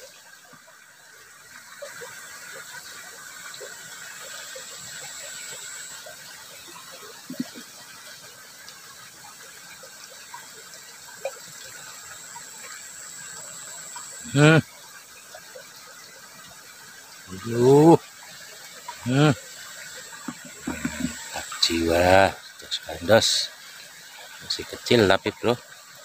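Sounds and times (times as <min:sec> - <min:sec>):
water rushing in ditch: 0:00.0 - 0:26.0.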